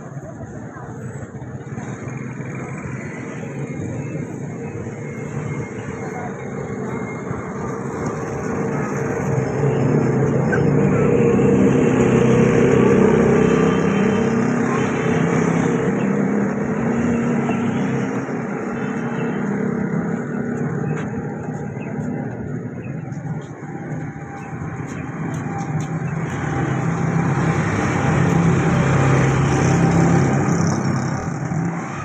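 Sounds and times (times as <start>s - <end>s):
vehicle engine running close: 0.0s - 32.0s.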